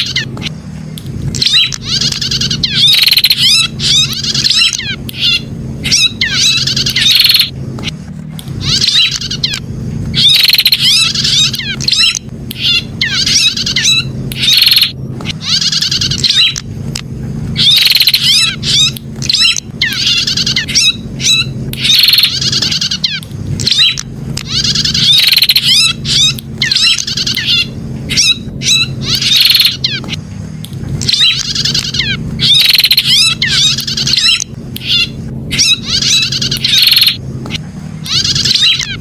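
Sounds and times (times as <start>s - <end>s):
bird chirps and trills: 0.0s - 39.0s
steady low hum: 0.0s - 39.0s.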